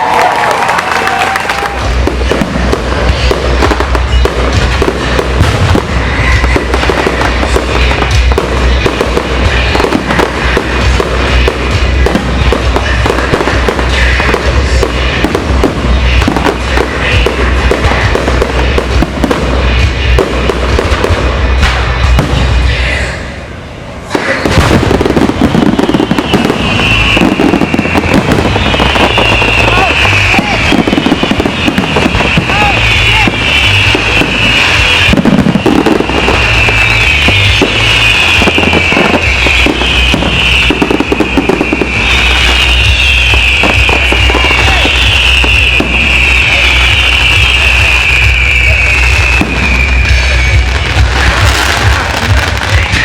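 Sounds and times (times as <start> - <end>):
fireworks bursting and crackling: 0.0 - 53.0
music playing: 0.0 - 53.0
deep rumble: 1.6 - 53.0.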